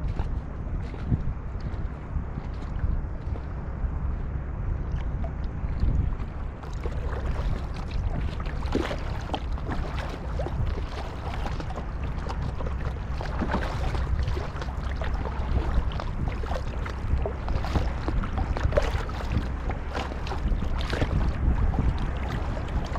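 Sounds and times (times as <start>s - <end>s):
paddle splashes and drips: 0.0s - 4.2s, 4.8s - 22.9s
water slapping boat hull: 0.0s - 22.9s
wind rumble on microphone: 0.0s - 22.9s.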